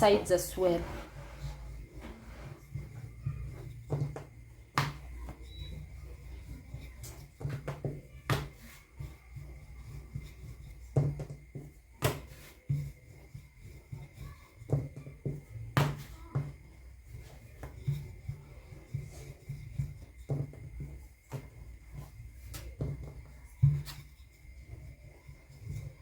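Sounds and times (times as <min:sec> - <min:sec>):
rolling pin rolling dough: 0:00.0 - 0:26.0
knocks and clacks of rolling pin: 0:01.9 - 0:26.0.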